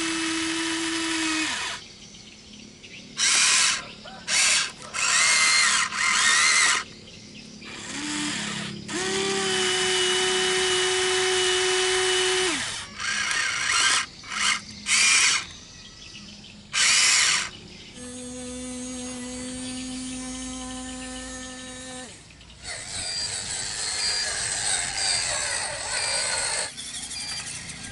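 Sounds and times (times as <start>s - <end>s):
gear motors whirring: 0.0s - 1.9s, 3.1s - 15.6s, 16.7s - 27.9s
steady motor hum: 0.0s - 27.9s.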